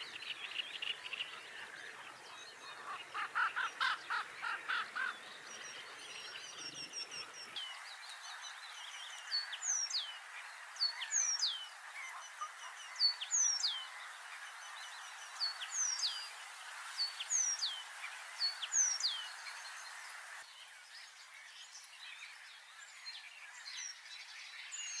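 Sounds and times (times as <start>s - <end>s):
faint background bird chirping: 0.0s - 25.0s.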